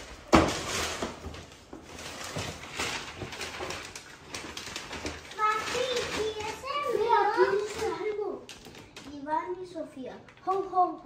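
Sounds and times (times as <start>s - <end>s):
wrapping paper rustling: 0.0s - 11.0s.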